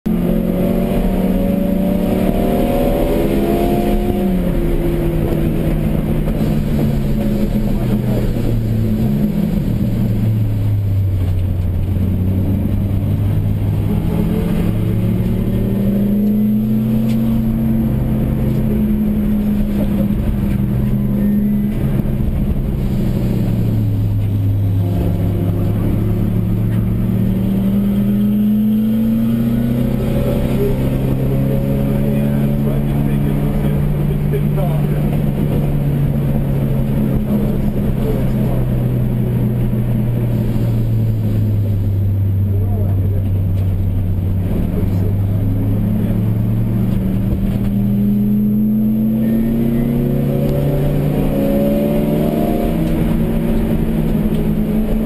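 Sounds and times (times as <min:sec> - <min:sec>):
car engine revving in cabin: 0:00.0 - 0:55.0.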